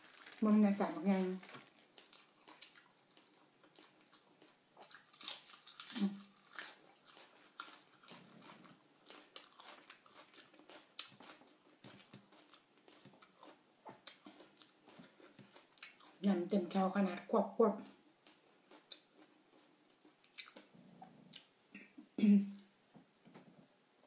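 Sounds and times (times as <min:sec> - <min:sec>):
person chewing with crunches: 0:00.0 - 0:16.2, 0:17.8 - 0:22.7.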